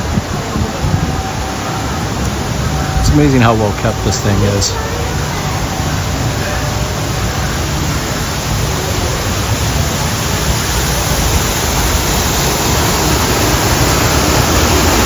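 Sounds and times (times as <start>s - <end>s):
waterfall rushing and splashing: 0.0s - 15.0s.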